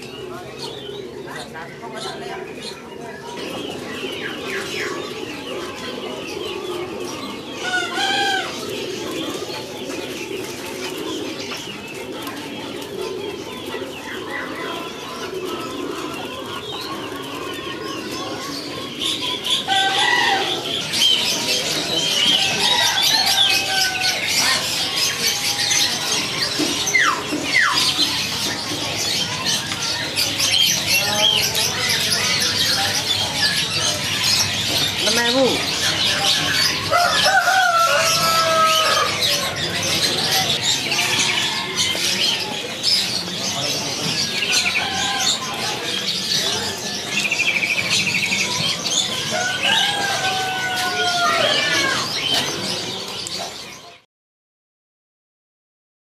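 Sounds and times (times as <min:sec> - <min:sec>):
birds chirping: 0:00.0 - 0:54.0
birds cooing: 0:00.0 - 0:54.0.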